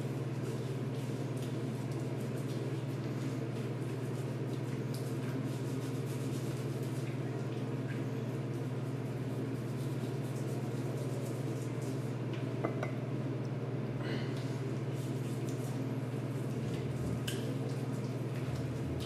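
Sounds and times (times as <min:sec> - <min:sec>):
shower water running: 0:00.0 - 0:12.3, 0:14.3 - 0:19.0.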